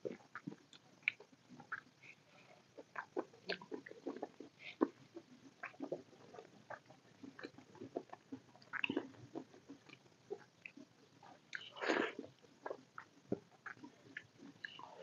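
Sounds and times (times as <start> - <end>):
wet chewing: 0.0 - 1.9, 2.7 - 10.9, 11.5 - 15.0.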